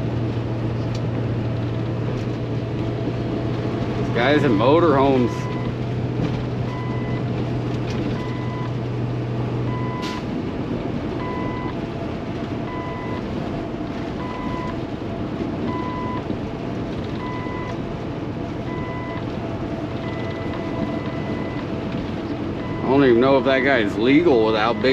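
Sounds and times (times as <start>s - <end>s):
truck engine and road drone: 0.0s - 24.9s.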